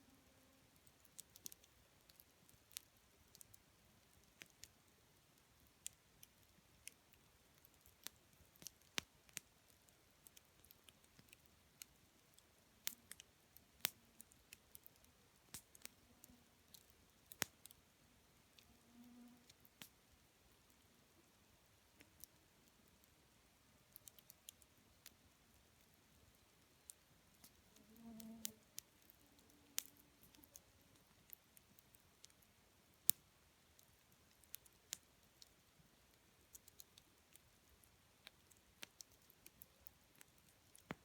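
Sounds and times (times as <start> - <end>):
campfire crackling and popping: 0.8 - 4.8, 5.4 - 16.0, 16.7 - 17.8, 19.4 - 20.0, 23.9 - 41.0.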